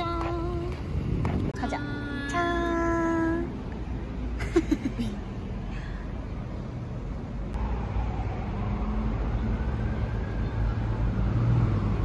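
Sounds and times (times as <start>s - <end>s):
traffic engine rumble: 0.0s - 12.0s.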